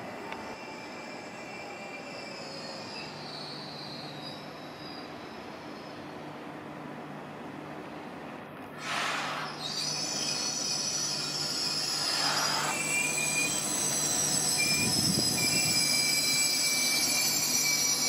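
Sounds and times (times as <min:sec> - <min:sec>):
high-pitched train wheel squeal: 0:00.0 - 0:06.3, 0:08.8 - 0:18.0
low train rumble: 0:00.0 - 0:18.0.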